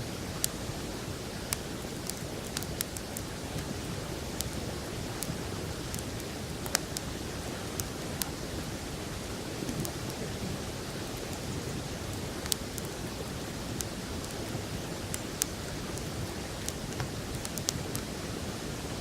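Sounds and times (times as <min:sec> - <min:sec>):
campfire crackling: 0:00.0 - 0:18.5.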